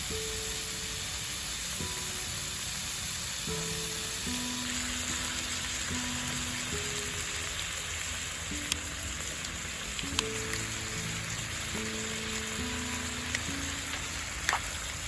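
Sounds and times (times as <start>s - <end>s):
meat sizzling in a frying pan: 0.0s - 15.0s
soft background music: 0.0s - 15.0s.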